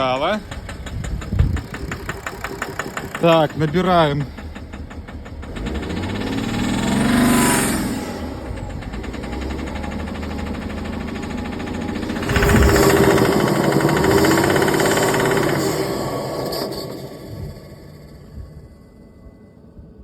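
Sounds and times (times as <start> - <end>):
diesel engine knocking: 0.0 - 18.6.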